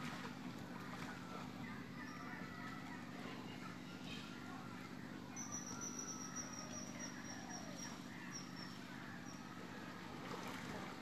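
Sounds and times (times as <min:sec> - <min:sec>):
faint gliding calls: 0:00.0 - 0:11.0
steady low hum: 0:00.0 - 0:11.0
thin high steady tone: 0:01.2 - 0:10.1.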